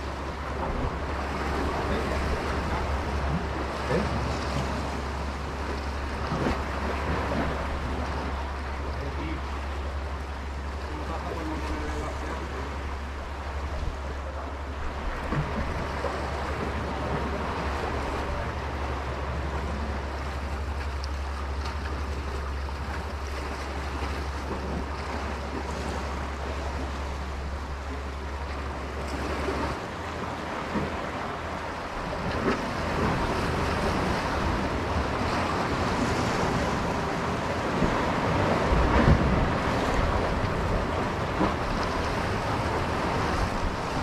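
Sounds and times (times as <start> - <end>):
surf washing against rocks: 0.0 - 44.0.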